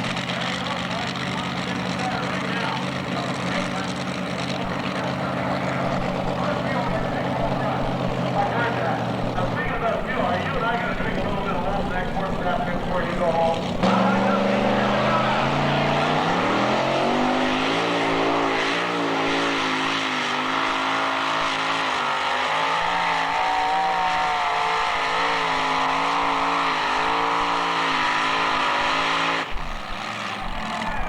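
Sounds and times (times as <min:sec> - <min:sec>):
truck engine revving under load: 0:00.0 - 0:31.0.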